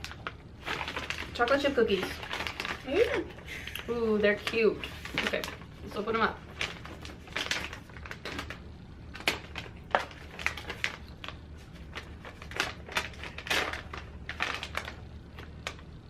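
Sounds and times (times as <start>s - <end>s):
plastic snack bag crinkling: 0.0s - 16.0s.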